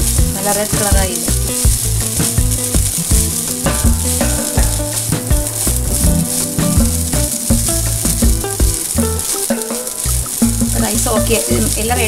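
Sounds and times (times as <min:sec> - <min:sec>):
background music with bass: 0:00.0 - 0:12.0
fried rice sizzling in pan: 0:00.0 - 0:12.0.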